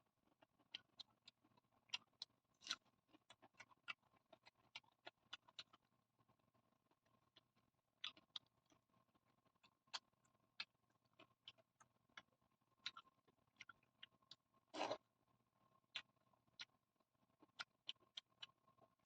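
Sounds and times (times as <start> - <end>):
person chewing food: 0.3 - 5.9, 6.9 - 15.1, 15.8 - 16.8, 17.4 - 19.0.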